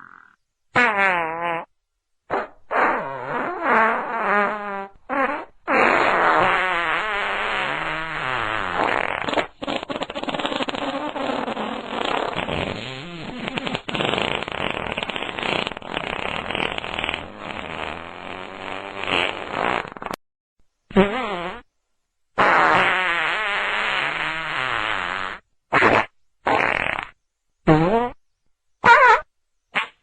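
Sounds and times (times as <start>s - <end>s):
sputtering farts: 0.0s - 1.7s, 2.3s - 20.2s, 20.9s - 21.6s, 22.4s - 28.2s, 28.8s - 30.0s.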